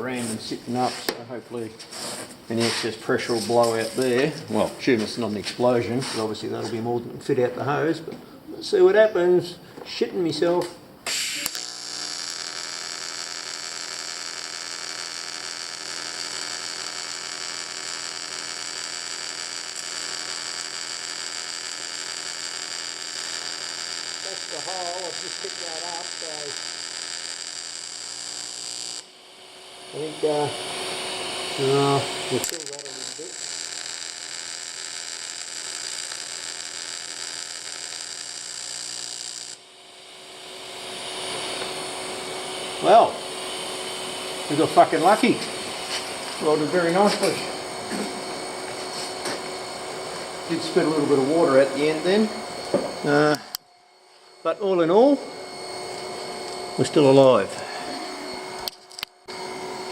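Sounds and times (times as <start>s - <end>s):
welding arc buzzing: 0.0s - 6.6s, 11.0s - 59.9s.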